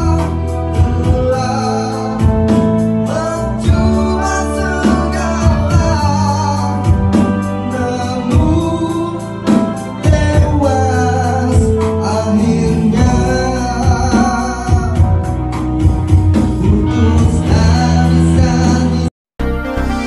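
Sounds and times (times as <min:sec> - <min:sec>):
man singing: 0:00.0 - 0:19.2
band playing slow song: 0:00.0 - 0:20.0.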